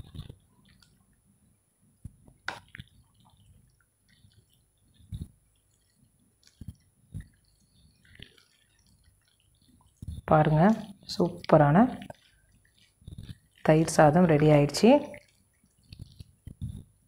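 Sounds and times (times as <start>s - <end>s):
wet squishing of stirred rice: 0.0s - 17.0s.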